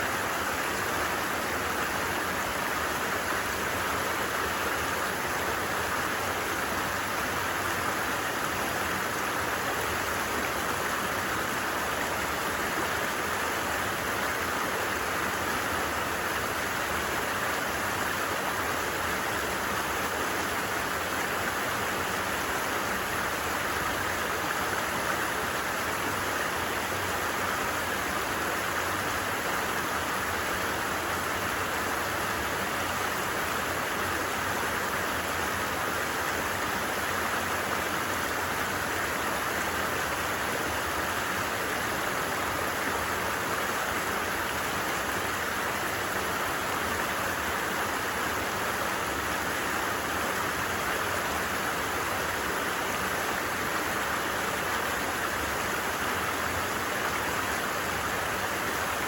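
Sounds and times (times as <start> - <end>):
stream rushing water: 0.0 - 59.0.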